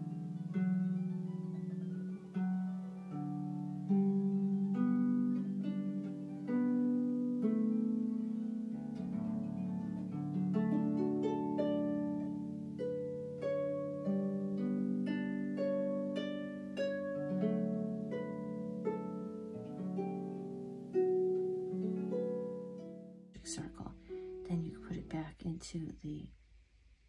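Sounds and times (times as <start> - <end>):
plucked string melody: 0.0 - 25.4.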